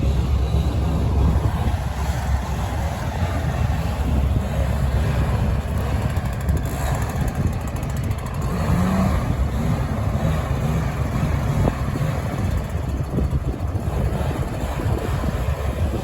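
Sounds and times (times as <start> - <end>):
heavy engine running: 0.0 - 16.0.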